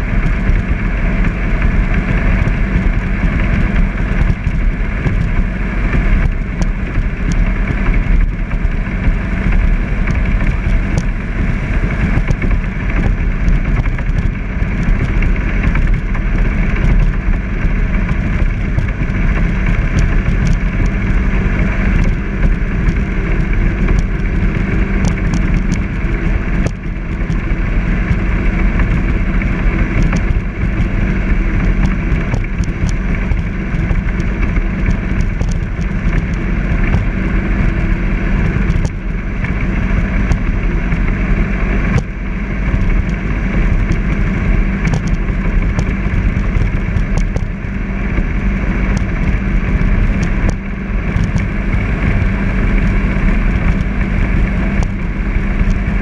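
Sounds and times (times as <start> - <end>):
boat engine drone: 0.0 - 56.0.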